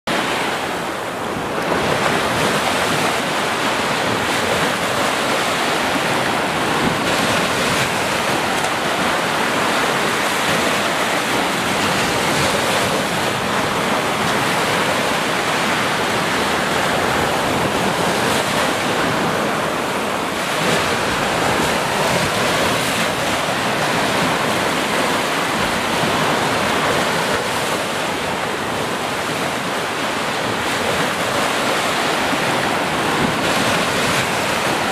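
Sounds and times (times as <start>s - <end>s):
waves breaking on sandy beach: 0.1s - 34.9s.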